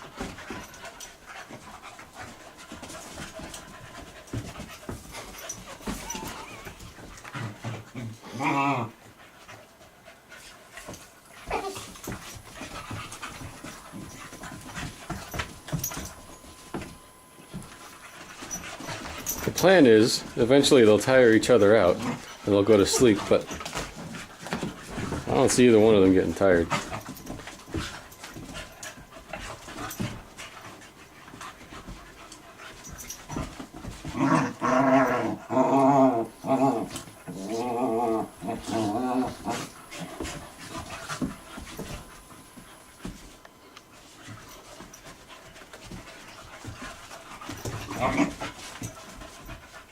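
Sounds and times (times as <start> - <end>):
puppies panting: 0.0 - 8.2, 9.0 - 34.2, 36.3 - 49.9.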